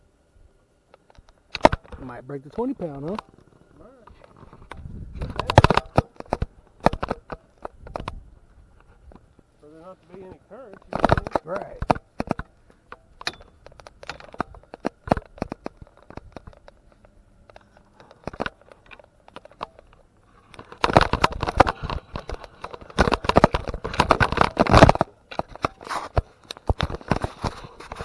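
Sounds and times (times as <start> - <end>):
crackling and rustling: 0.8 - 28.0.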